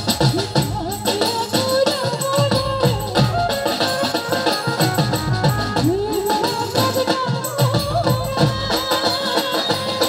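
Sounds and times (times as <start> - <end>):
drums beating dance rhythm: 0.0 - 10.0
jingling hand percussion: 0.0 - 10.0.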